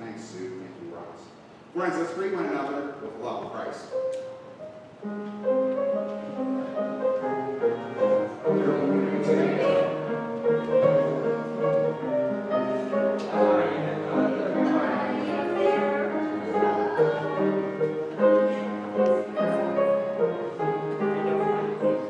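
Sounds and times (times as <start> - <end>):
keyboard instrument music: 3.9 - 22.0.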